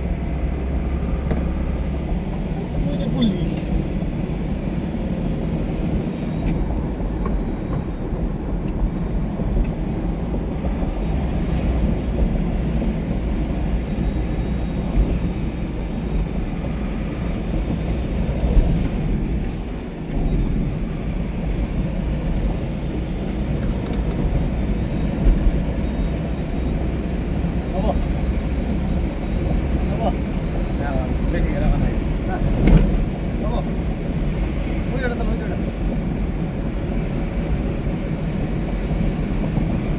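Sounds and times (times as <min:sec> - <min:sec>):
low rumble of traffic: 0:00.0 - 0:39.9.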